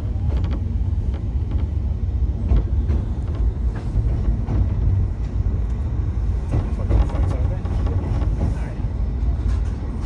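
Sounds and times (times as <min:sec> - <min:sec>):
railway carriage rumble: 0:00.0 - 0:10.0.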